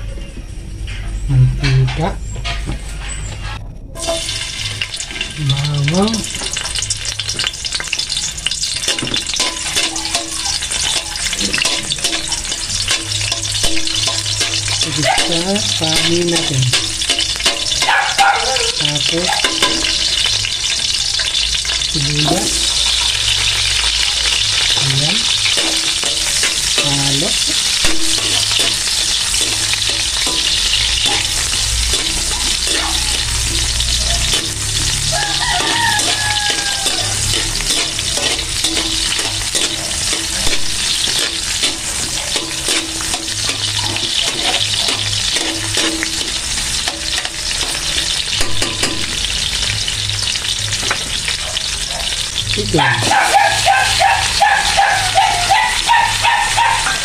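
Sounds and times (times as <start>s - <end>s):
metal spatula scraping wok: 0.8s - 52.4s
garlic and onion sizzling in oil: 4.0s - 57.0s.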